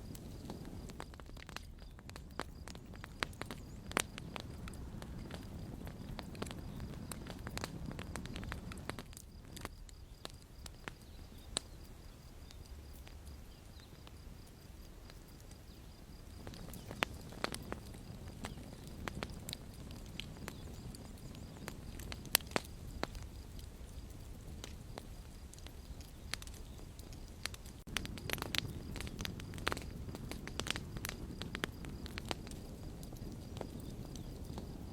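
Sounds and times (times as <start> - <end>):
burning wood popping: 0.0 - 34.9
flames rumbling: 0.0 - 34.9.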